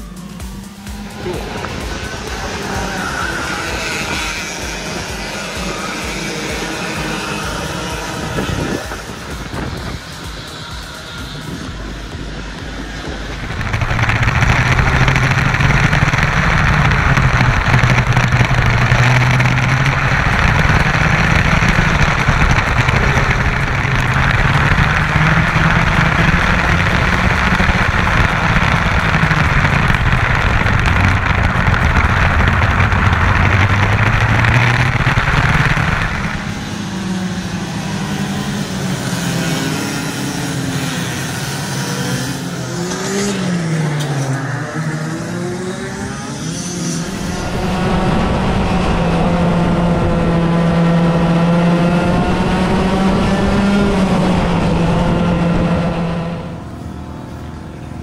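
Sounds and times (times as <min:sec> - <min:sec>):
kart engine running and revving: 0:00.0 - 0:58.0.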